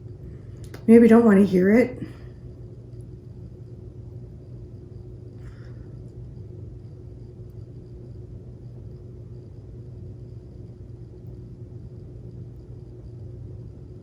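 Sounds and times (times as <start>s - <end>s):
faint steady tone: 0.0s - 14.0s
steady low hum: 0.0s - 14.0s.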